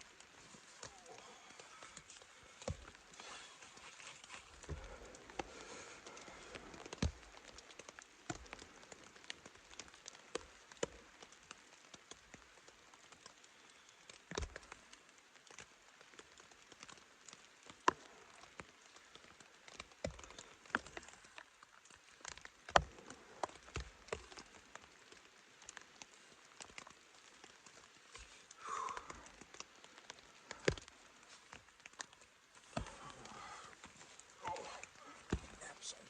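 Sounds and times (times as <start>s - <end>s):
rain dripping on tent fabric: 0.0s - 36.0s.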